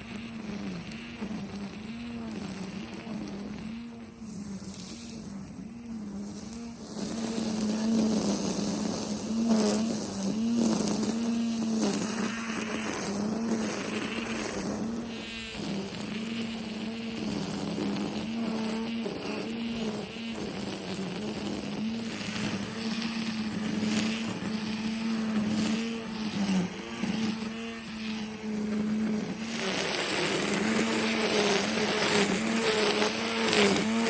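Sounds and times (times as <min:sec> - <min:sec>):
grass swishing: 0:00.0 - 0:34.0
string trimmer running: 0:00.0 - 0:34.0.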